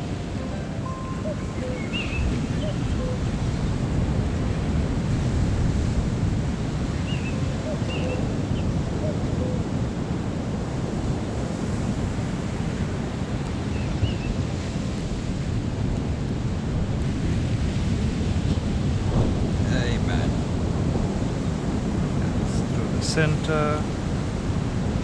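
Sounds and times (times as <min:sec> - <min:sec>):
ocean surf washing ashore: 0:00.0 - 0:25.0
wind buffeting microphone: 0:00.0 - 0:25.0.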